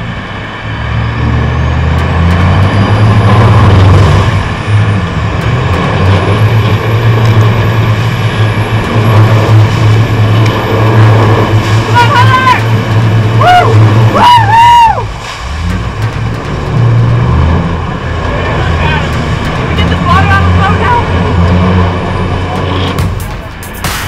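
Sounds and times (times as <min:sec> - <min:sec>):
boat engines running hard: 0:00.0 - 0:24.0
high whine: 0:00.0 - 0:24.0
water churning: 0:02.1 - 0:23.8.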